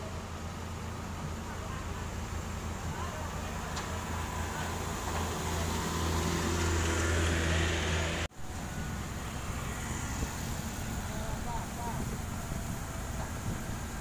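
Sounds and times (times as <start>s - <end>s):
heavy engine humming: 0.0s - 14.0s
road noise: 0.0s - 14.0s.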